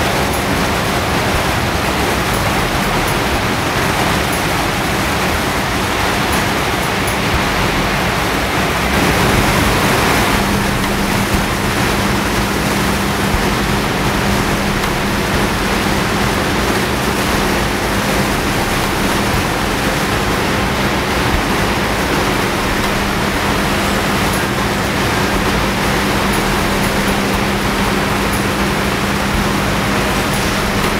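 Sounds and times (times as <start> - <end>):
water roaring over spillway: 0.0 - 30.9.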